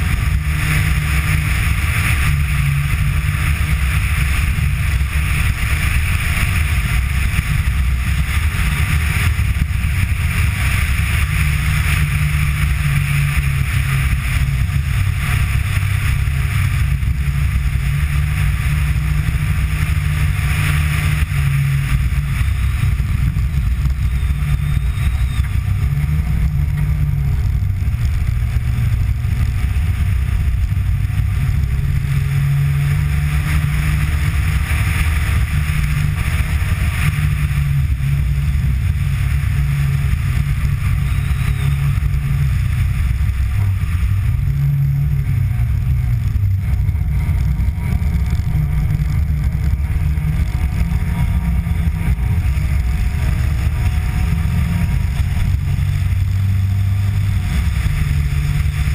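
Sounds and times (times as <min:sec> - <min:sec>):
rally car engine running hard: 0:00.0 - 0:58.9
wind rush: 0:00.0 - 0:58.9.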